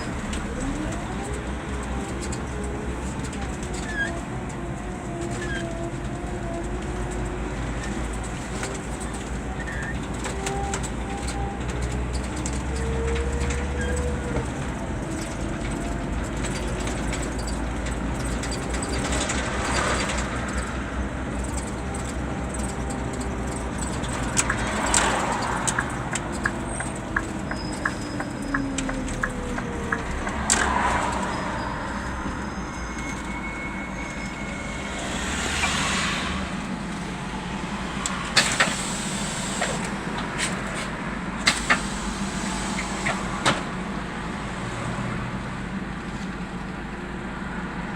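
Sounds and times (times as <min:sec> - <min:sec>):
bus engine whining: 0:00.0 - 0:47.9.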